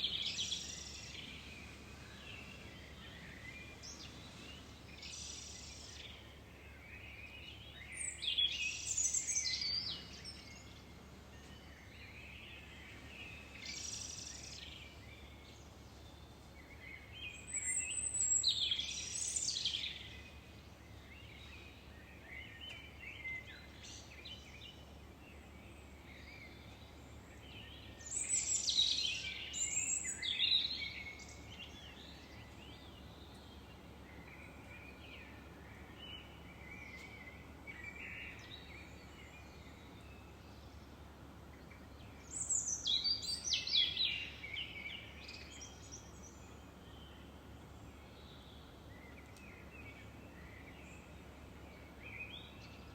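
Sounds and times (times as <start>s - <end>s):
faint background hiss: 0.0s - 52.9s
songbirds warbling: 0.0s - 52.9s.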